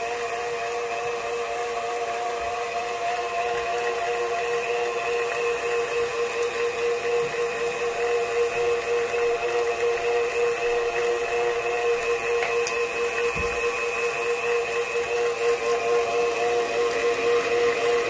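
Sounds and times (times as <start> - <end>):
stand mixer motor whining: 0.0 - 18.0.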